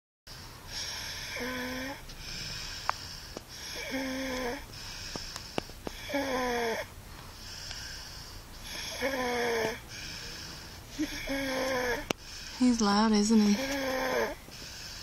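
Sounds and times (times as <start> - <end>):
hissing breaths: 0.3 - 12.8, 13.5 - 15.0
loud snoring: 0.7 - 4.7, 5.9 - 12.7, 13.4 - 15.0.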